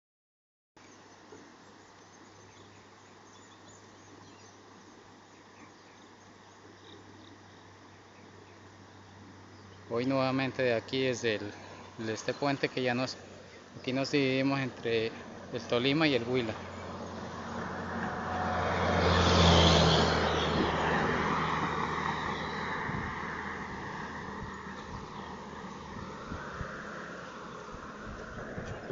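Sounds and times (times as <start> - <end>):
vehicle engine hum: 0.9 - 28.9.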